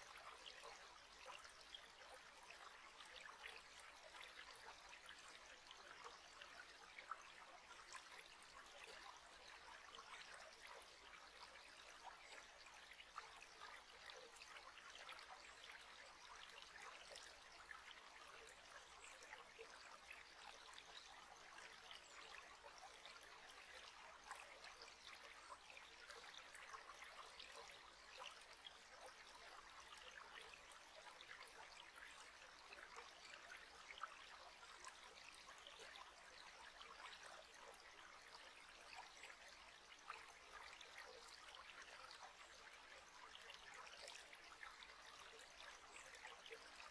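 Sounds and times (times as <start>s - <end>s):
faint trickling water: 0.0s - 46.9s.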